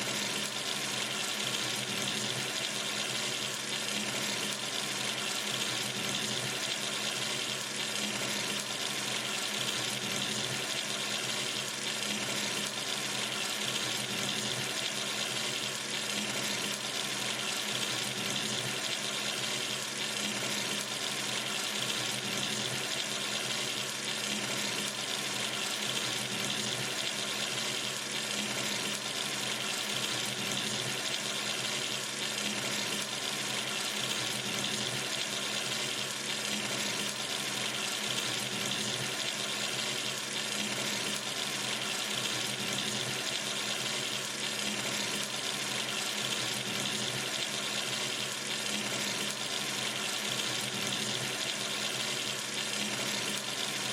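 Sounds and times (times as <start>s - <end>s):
water running from sink tap: 0.0s - 53.9s.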